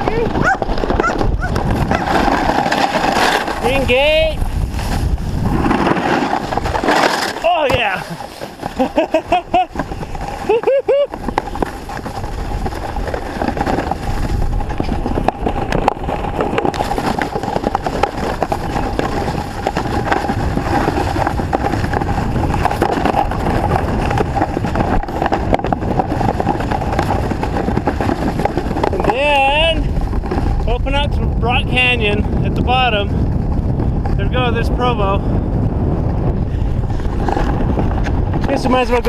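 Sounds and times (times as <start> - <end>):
snowboard scraping over snow: 0.0 - 39.0
wind buffeting microphone: 0.0 - 39.0.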